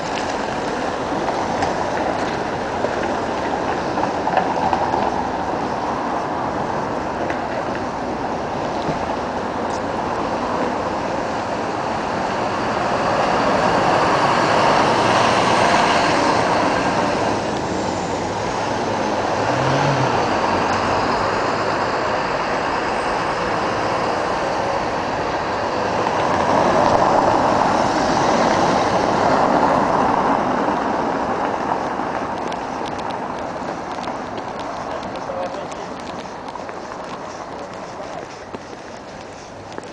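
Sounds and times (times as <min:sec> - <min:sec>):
vehicles passing close by: 0:00.0 - 0:39.9
motor vehicles hissing: 0:05.2 - 0:39.9.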